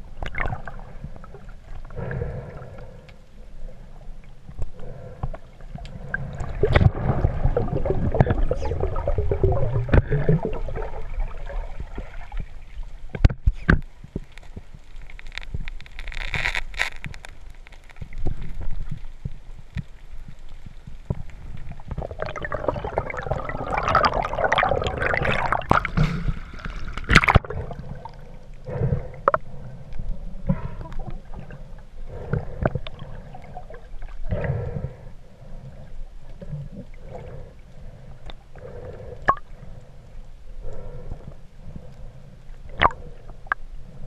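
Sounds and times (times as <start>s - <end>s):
underwater bubbling: 0.0s - 44.0s
underwater sloshing and gurgling: 0.0s - 44.0s.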